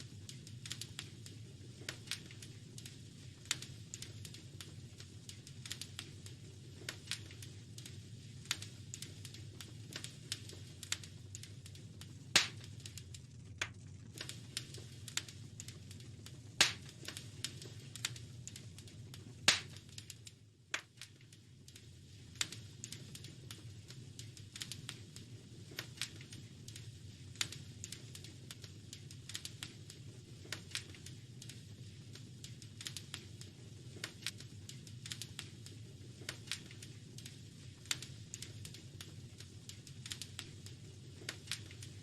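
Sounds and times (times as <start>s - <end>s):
wood fire crackling: 0.0s - 42.0s
loud fire pops: 0.2s - 42.0s.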